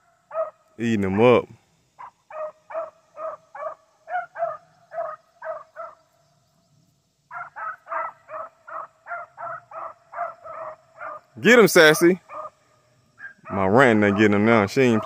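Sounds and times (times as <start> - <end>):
beagles baying: 0.0 - 0.7, 2.0 - 6.2, 7.3 - 15.0.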